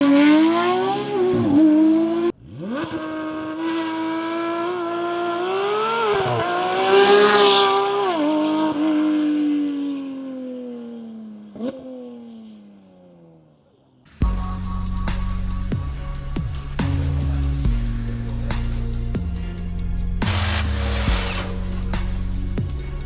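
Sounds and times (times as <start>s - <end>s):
high-revving car engine scream: 0.0s - 13.2s, 14.1s - 22.8s.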